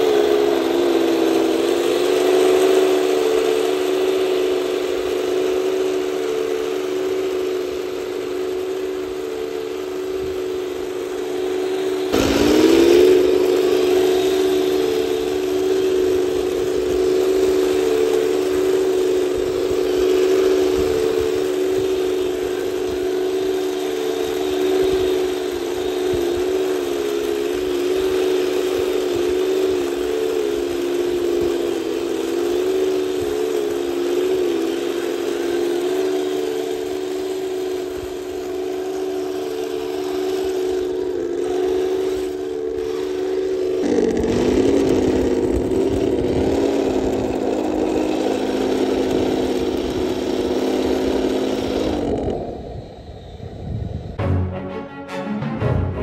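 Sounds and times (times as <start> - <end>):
toy tank engine drone: 0.0 - 54.2
drive motors whining: 0.0 - 54.6.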